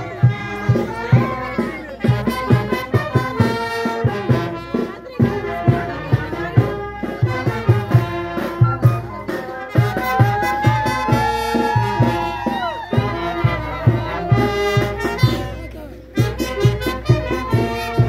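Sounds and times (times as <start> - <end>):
bass drum beating: 0.0 - 18.0
wind instrument melody: 0.0 - 18.0.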